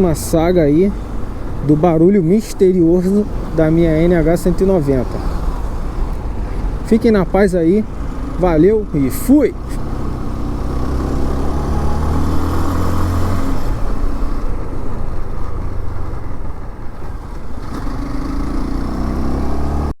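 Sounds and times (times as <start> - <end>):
road and wind noise: 0.0 - 20.0
motorcycle engine running: 2.8 - 19.9.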